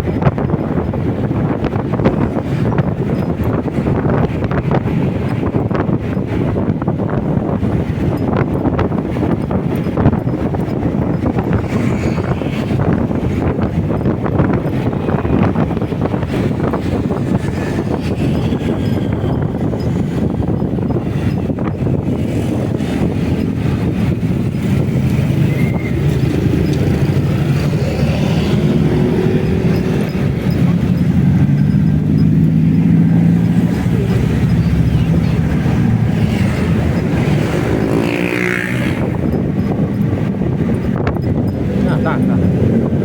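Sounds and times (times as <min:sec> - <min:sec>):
motorcycle engine and road noise: 0:00.0 - 0:43.0
wind on microphone: 0:00.0 - 0:43.0.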